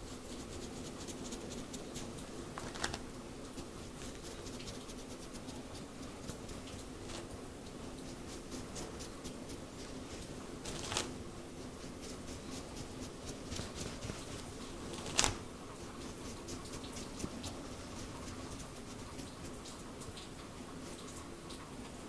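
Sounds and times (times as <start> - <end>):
hands scratching through hair: 0.0 - 20.2.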